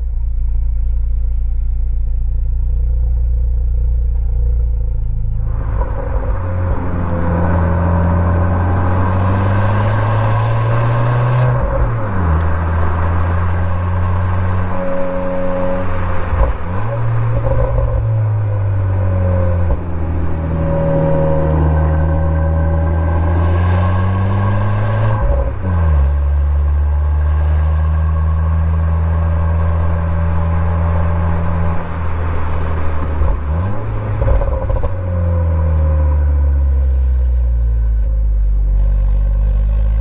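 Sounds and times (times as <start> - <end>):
car exhaust note: 0.0 - 40.0.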